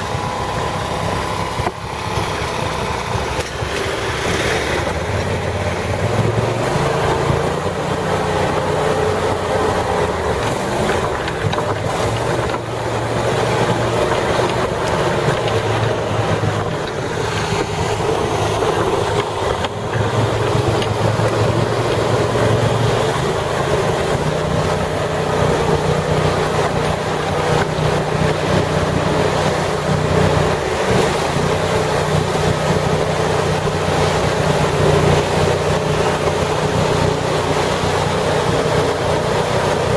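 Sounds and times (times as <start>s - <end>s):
atv engine running: 0.0s - 39.9s
water rushing: 0.0s - 39.9s
wind noise: 0.0s - 39.9s.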